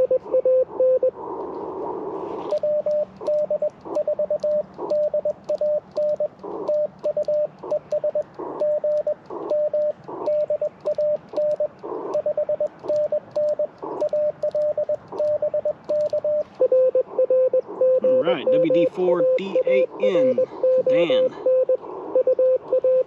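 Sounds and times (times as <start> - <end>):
morse code tone: 0.0 - 1.1, 2.5 - 23.0
radio band hiss: 1.1 - 16.6, 18.0 - 23.0.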